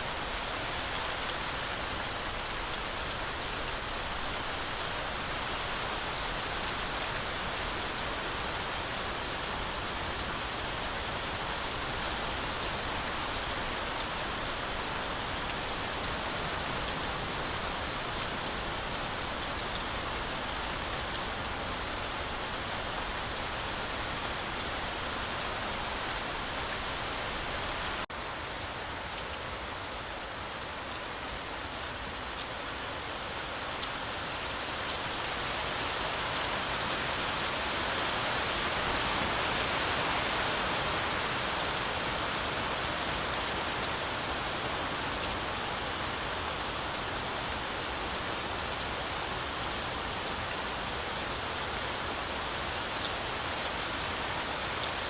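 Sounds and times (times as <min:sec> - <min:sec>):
heavy rain in forest: 0:00.0 - 0:55.0.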